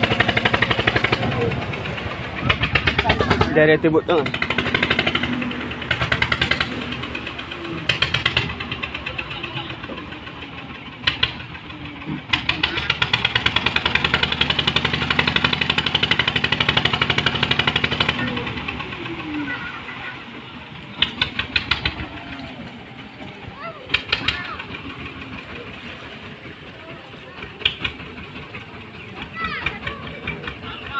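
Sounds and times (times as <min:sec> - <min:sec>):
engine knocking: 0:00.0 - 0:30.9.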